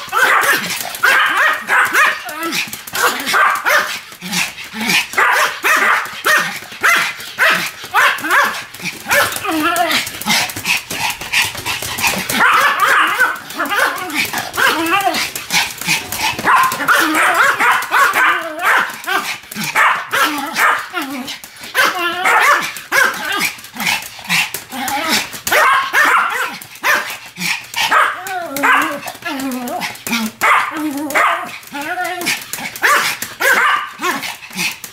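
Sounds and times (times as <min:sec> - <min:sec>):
small dogs yapping: 0:00.0 - 0:34.8.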